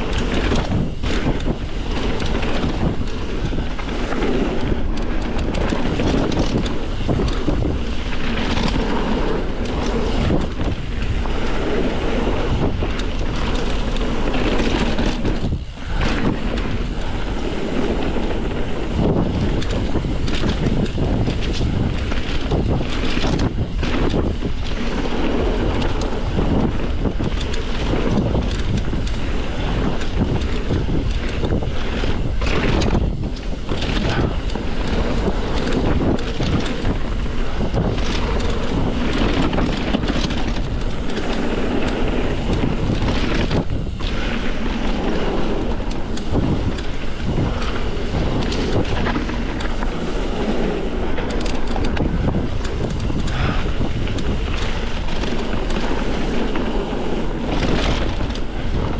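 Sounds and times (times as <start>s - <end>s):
bike rattling over bumps: 0.0s - 58.9s
tyres rumbling over dirt: 0.0s - 58.9s
wind buffeting microphone: 0.0s - 58.9s.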